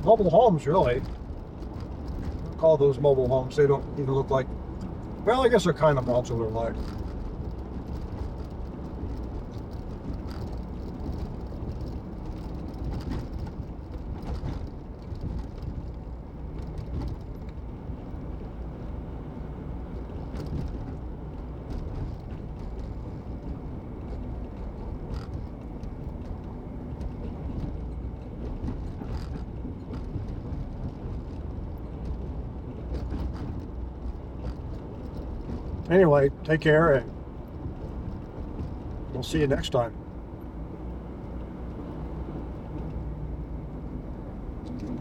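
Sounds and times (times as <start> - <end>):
car driving on highway: 0.0 - 45.0.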